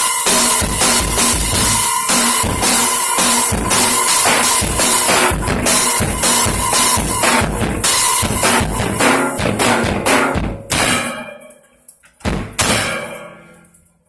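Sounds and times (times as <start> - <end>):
drum kit playing: 0.0 - 11.4, 12.2 - 13.3.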